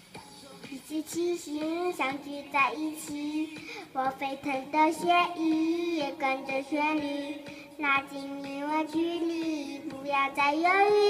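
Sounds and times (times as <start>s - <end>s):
boy singing into microphone: 0.4s - 11.0s.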